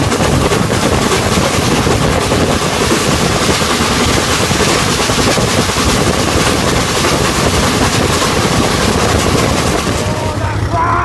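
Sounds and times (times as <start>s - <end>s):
vehicle rumbling in motion: 0.0s - 11.0s.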